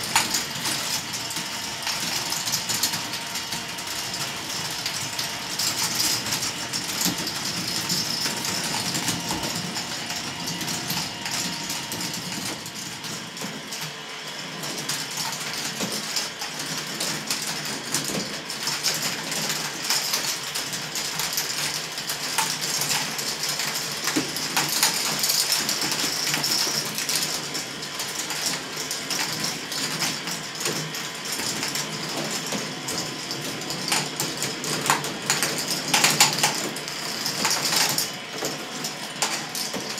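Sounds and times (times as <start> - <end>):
motors and gear-driven lifts: 0.0 - 39.9.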